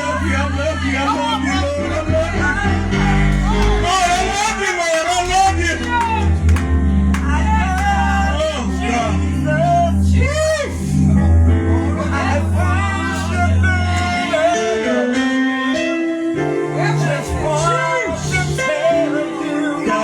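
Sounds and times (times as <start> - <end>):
sustained instrumental chords and bass: 0.0 - 20.0.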